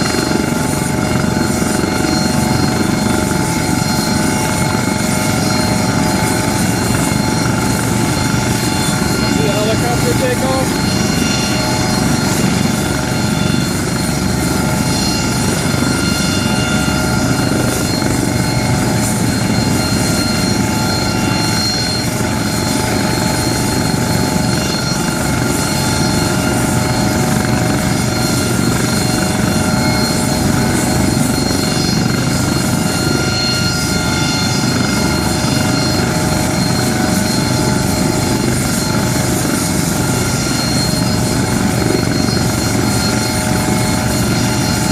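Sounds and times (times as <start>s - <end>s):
aircraft engine drone: 0.0s - 44.9s
whining tones: 0.0s - 44.9s.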